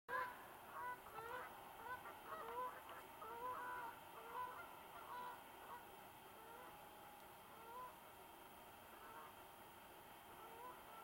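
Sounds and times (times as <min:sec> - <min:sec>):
birds calling: 0:00.1 - 0:09.5, 0:10.3 - 0:11.0.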